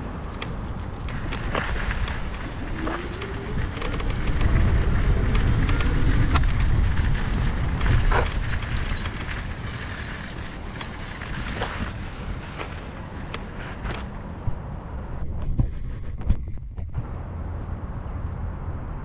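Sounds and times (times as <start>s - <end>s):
bike tyres on gravel: 0.0s - 16.6s
wind rumble on microphone: 0.0s - 19.0s.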